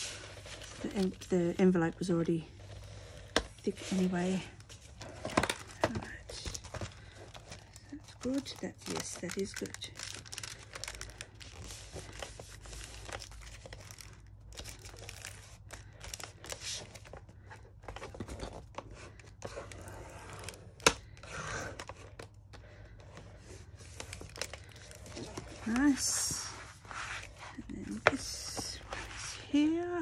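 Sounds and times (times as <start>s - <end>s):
thick paper rustling and crinkling: 0.0s - 29.6s.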